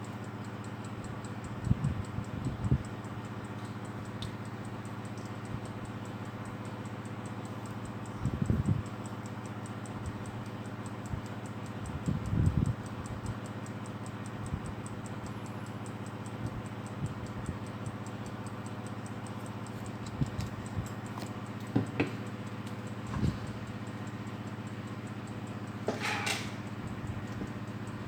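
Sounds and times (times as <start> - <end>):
alarm clock ticking: 0.0 - 28.0.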